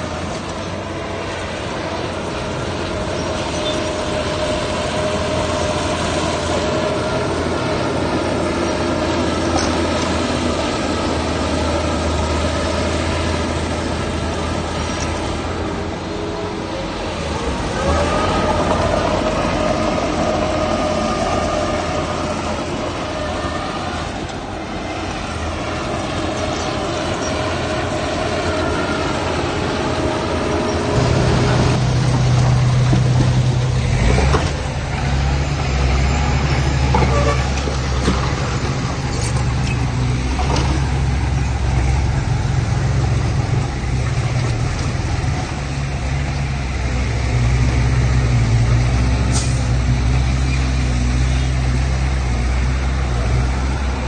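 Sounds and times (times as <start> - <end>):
deep engine hum: 0.0 - 54.0
heavy diesel machinery running: 0.0 - 54.0.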